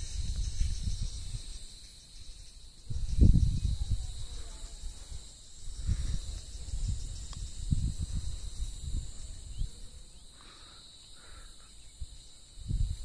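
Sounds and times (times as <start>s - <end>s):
wind buffeting microphone: 0.0s - 10.1s, 11.9s - 13.0s
high insect drone: 0.0s - 13.0s.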